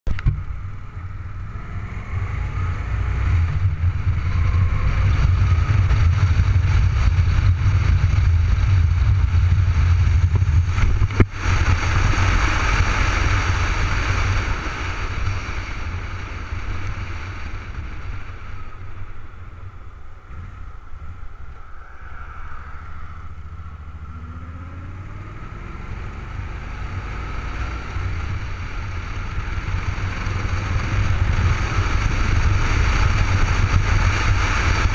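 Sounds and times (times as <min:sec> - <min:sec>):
motorcycle engine drone: 0:00.1 - 0:34.9
rushing wind noise: 0:00.1 - 0:34.9.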